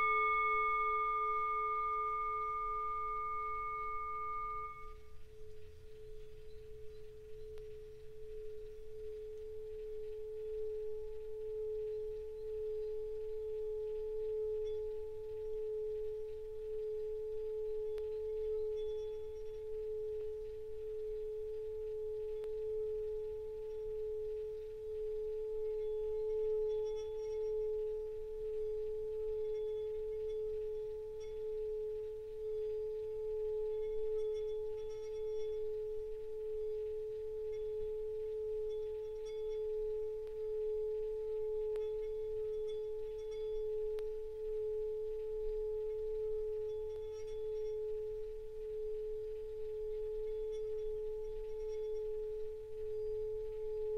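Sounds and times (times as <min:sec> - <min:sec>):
singing bowl sustained tone: 0:00.0 - 0:53.9.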